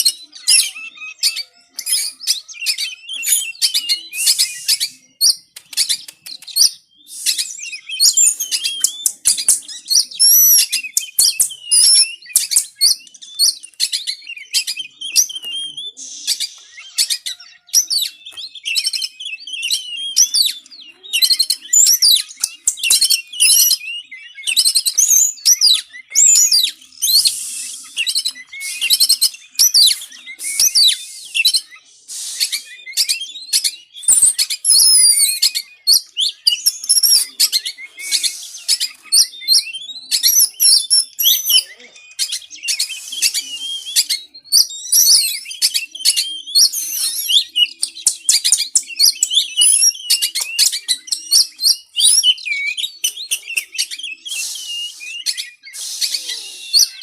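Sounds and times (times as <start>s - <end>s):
songbird singing aggressively: 0.0s - 57.0s.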